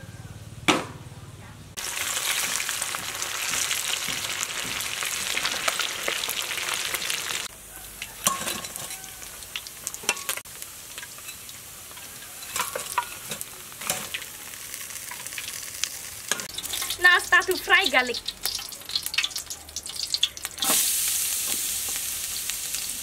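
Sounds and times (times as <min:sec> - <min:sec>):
fish deep-frying in hot oil: 0:01.8 - 0:23.0
light crackles of draining fish: 0:01.8 - 0:23.0.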